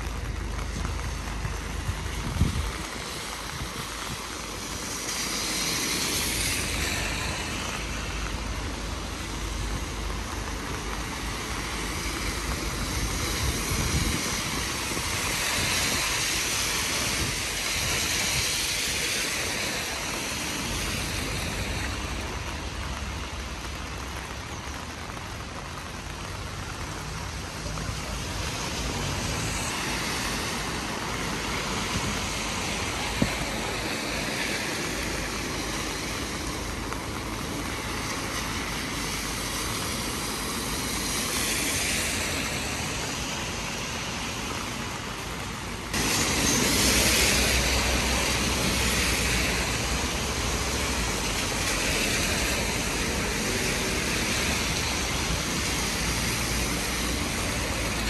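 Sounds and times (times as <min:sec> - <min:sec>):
steady rain: 0:00.0 - 0:58.0
tyres hissing on wet street: 0:00.0 - 0:58.0.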